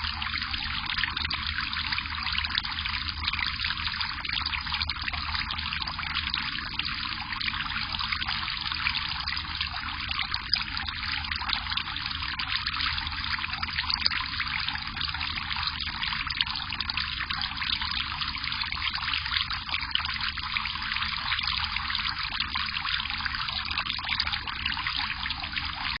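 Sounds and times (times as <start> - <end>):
water trickling: 0.0 - 26.0.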